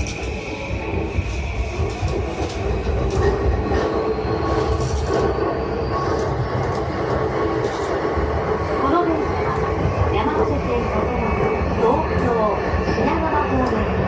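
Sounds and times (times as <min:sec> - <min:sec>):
tonal train whine: 0:00.0 - 0:14.0
train wheels rumbling on track: 0:00.0 - 0:14.0.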